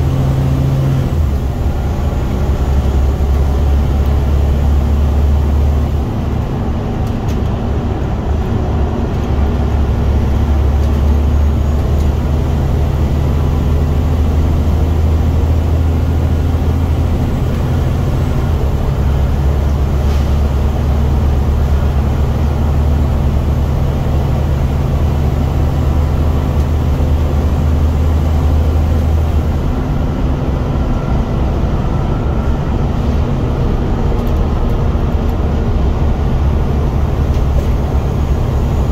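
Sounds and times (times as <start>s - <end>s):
bus diesel engine drone: 0.0s - 38.9s
road noise: 0.0s - 38.9s.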